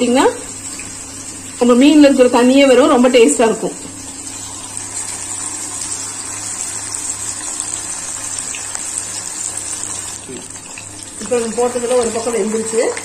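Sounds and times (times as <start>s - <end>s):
oil sizzling while frying: 0.0s - 13.0s.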